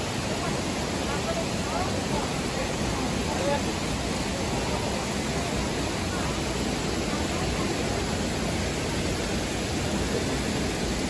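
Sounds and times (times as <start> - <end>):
water falling down rock face: 0.0 - 11.0.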